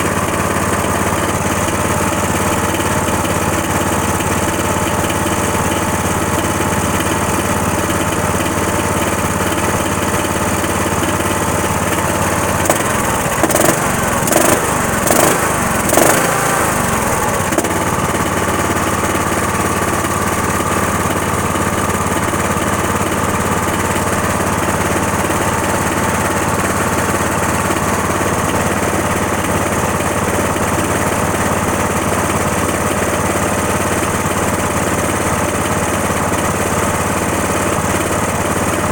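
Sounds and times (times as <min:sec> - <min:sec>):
loud engine bursts: 0:00.0 - 0:35.6
lawn tractor engine running: 0:00.0 - 0:38.9.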